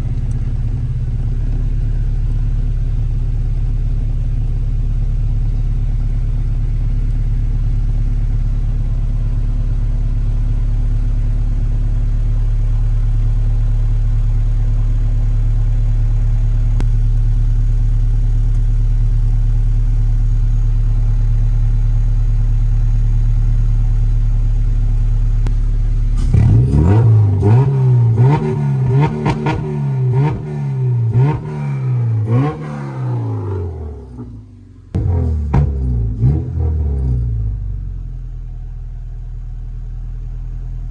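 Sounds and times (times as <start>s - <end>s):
car engine running: 0.0s - 40.9s
music with deep bass and drums: 0.0s - 40.9s.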